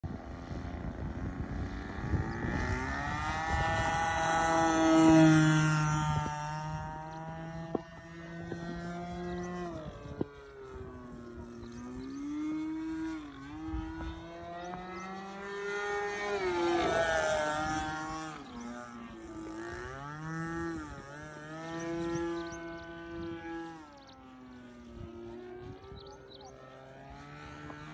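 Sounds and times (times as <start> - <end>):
model plane engine buzzing: 0.0 - 27.9.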